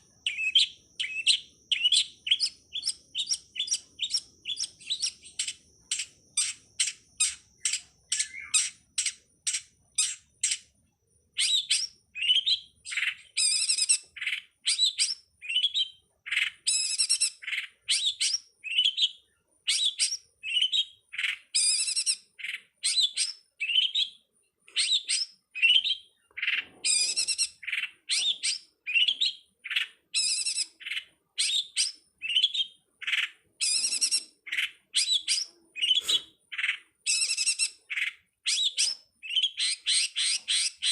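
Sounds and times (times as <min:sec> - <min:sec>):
bird chirping song: 0:00.0 - 0:40.9.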